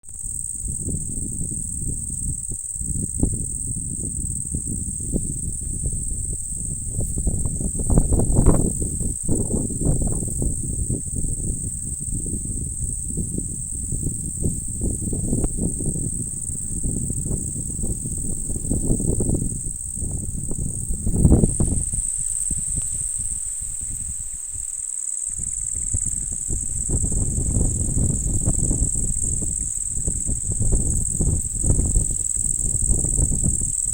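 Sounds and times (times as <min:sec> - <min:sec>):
wind buffeting microphone: 0:00.0 - 0:33.9
high-pitched insect drone: 0:00.1 - 0:33.9.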